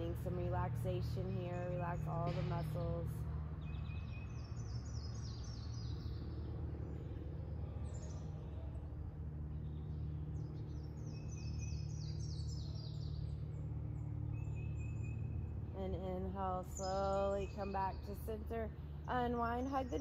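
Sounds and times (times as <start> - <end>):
songbirds chirping: 0.0 - 20.0
steady low hum: 0.0 - 20.0.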